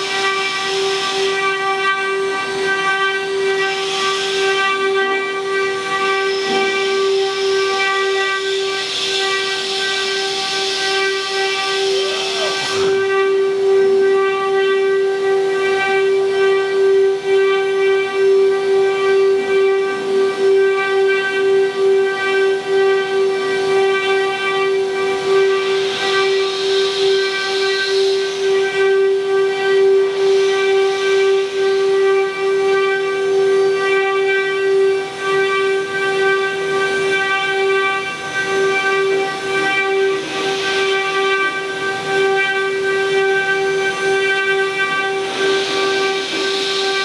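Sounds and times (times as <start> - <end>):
router spindle motors whining: 0.0 - 47.0.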